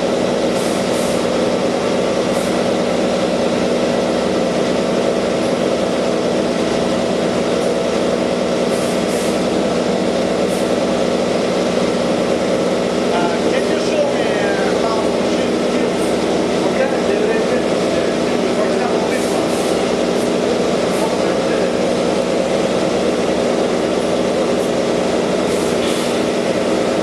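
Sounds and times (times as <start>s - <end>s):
laundry machinery drone: 0.0s - 27.0s.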